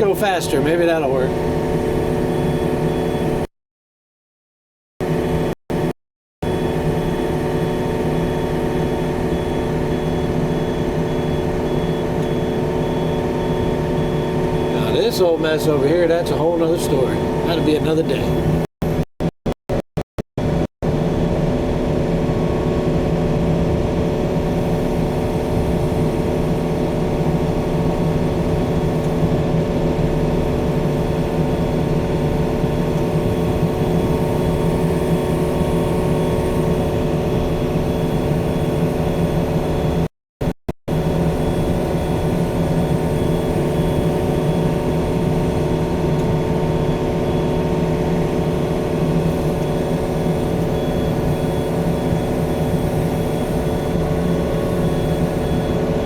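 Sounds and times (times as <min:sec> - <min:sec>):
diesel engine running under load: 0:00.0 - 0:03.5, 0:06.4 - 0:19.0, 0:20.4 - 0:40.1, 0:40.9 - 0:56.0.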